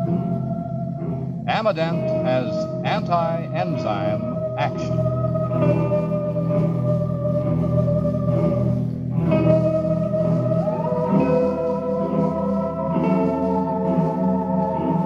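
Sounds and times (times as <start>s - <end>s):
sustained chord music: 0.0s - 15.0s.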